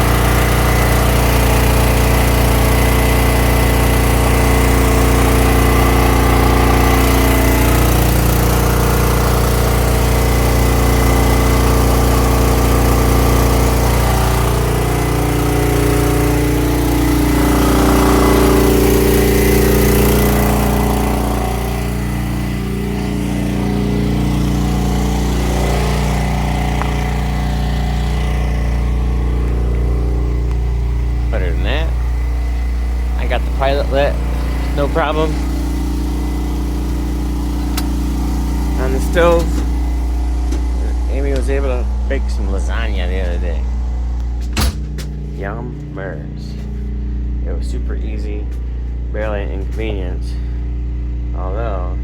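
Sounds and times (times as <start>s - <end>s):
generator engine running: 0.0s - 52.0s.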